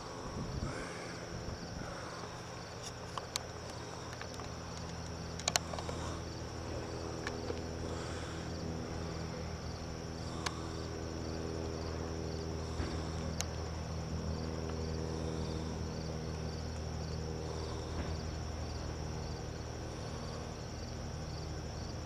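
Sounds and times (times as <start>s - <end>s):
crickets chirping: 0.0s - 22.0s
low hum: 0.0s - 22.0s.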